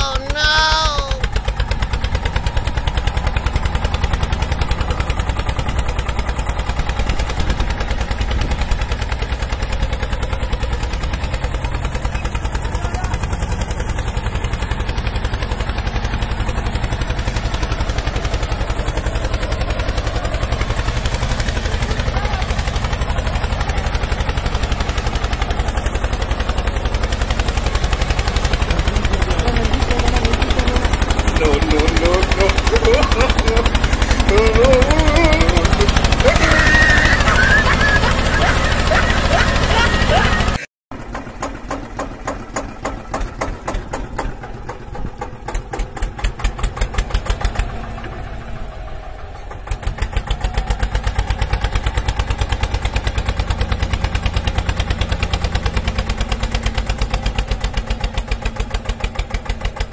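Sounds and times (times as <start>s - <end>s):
tractor engine knocking: 0.0s - 59.9s.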